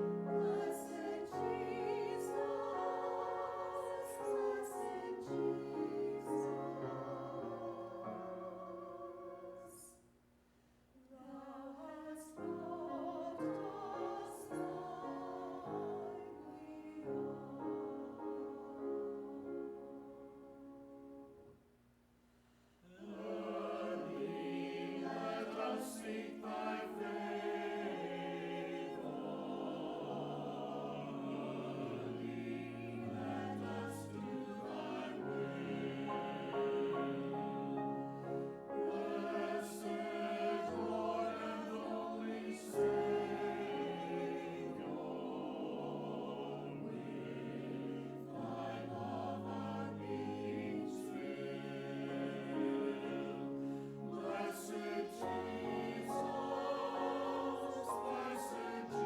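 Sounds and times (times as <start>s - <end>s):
church choir singing: 0.0s - 10.0s, 11.0s - 21.5s, 22.8s - 59.0s.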